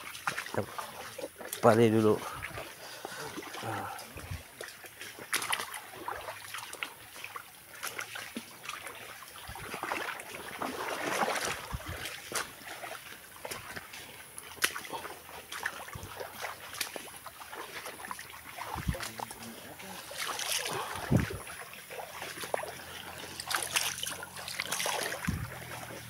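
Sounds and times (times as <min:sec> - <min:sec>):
footsteps splashing in muddy water: 0:00.0 - 0:26.0.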